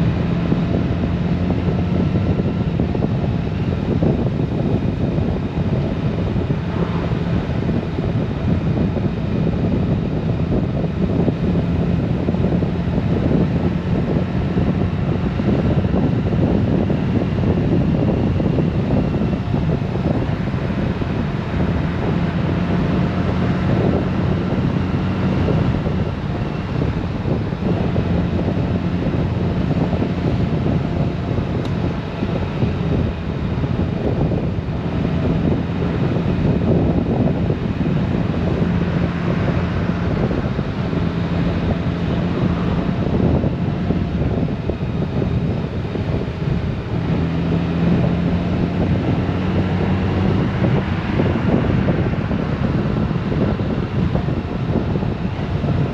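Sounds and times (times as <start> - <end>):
motorcycle engine hum: 0.0 - 55.9
wind rush on microphone: 0.0 - 55.9.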